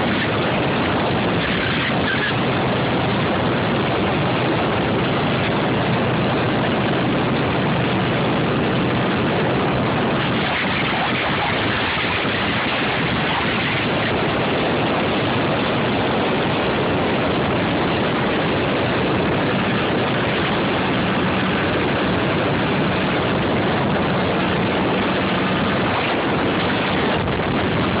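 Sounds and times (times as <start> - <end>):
constant noisy rush: 0.0 - 28.0.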